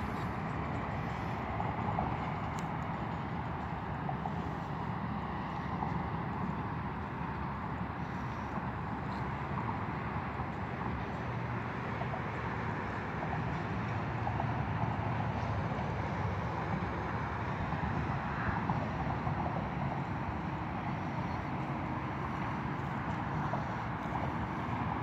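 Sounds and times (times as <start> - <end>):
distant highway traffic: 0.0 - 25.0.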